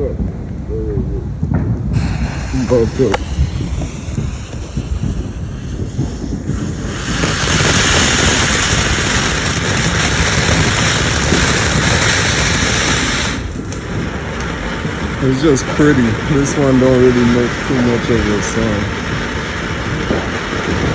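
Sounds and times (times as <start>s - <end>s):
firework hissing: 1.8s - 20.9s.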